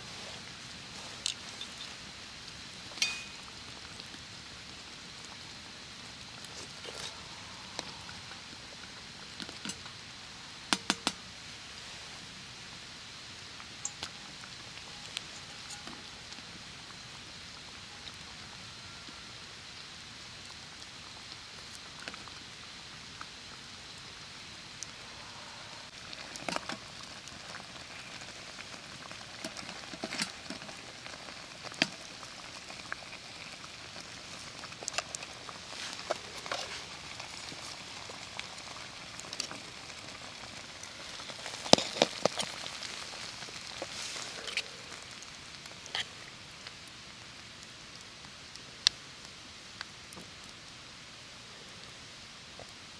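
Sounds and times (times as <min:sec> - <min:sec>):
campfire crackling and popping: 0:00.0 - 0:18.3, 0:19.5 - 0:51.0.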